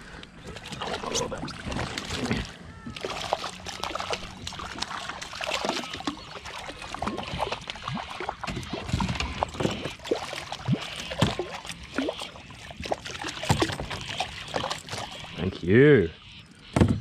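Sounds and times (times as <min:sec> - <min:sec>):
water splashing and dripping: 0:00.5 - 0:15.6.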